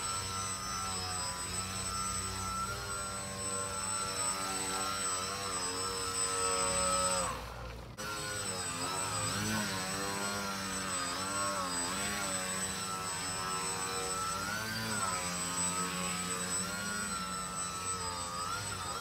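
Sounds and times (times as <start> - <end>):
rc plane electric motor whine: 0.0 - 19.0.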